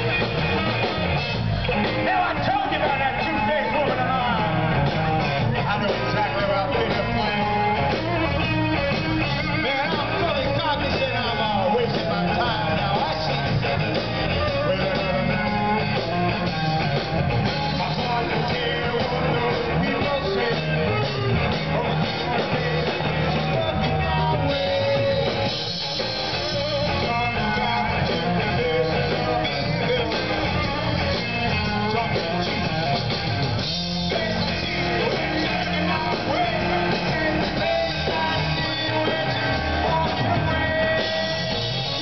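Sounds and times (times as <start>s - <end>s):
bass guitar: 0.0s - 42.0s
drum kit: 0.0s - 42.0s
electric guitar: 0.0s - 42.0s.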